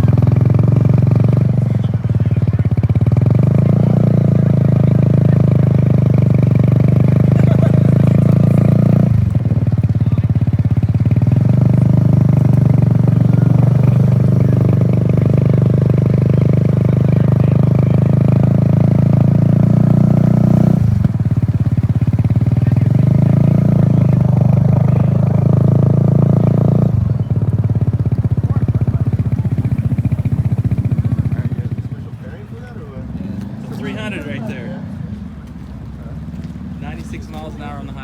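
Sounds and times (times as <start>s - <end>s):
mini bike engine: 0.0s - 38.0s.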